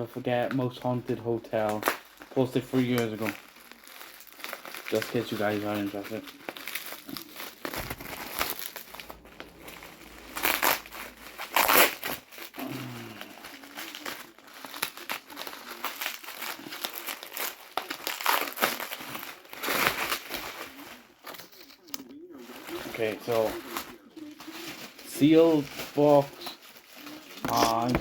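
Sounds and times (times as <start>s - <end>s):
bubble wrap crackling: 0.0s - 28.0s.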